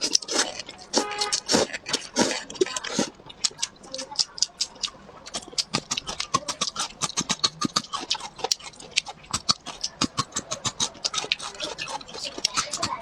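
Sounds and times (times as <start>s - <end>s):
chewing with wet mouth clicks: 0.0s - 13.0s.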